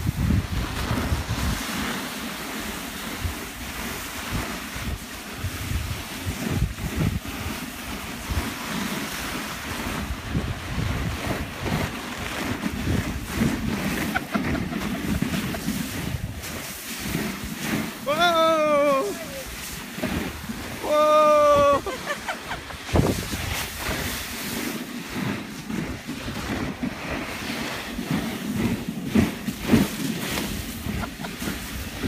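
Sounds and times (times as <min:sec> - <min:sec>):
sledge sliding on snow: 0:00.0 - 0:32.0
wind buffeting microphone: 0:00.0 - 0:32.0.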